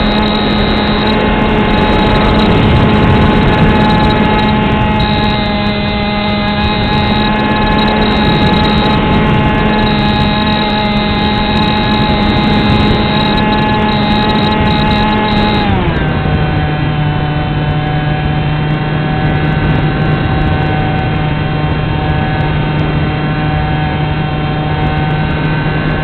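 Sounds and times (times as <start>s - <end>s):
model plane motor humming: 0.0s - 26.0s
rushing air: 0.0s - 26.0s.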